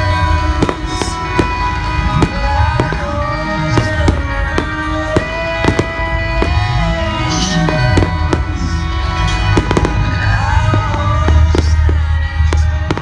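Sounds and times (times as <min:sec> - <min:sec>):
fireworks banging: 0:00.0 - 0:13.0
loud music with sustained melody: 0:00.0 - 0:13.0.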